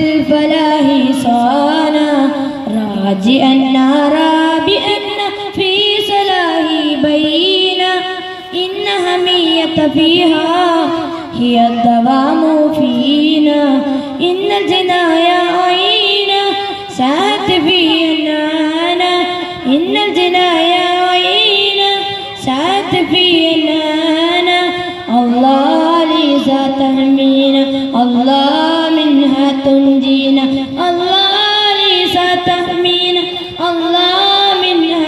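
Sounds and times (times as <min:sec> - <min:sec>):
boy singing into a microphone: 0:00.0 - 0:35.0.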